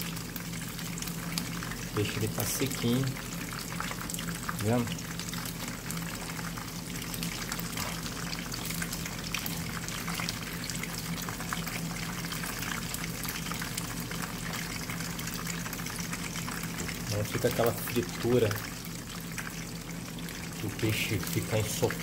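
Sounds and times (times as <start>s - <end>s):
fish frying in hot oil: 0.0s - 22.0s
low steady hum: 0.0s - 22.0s.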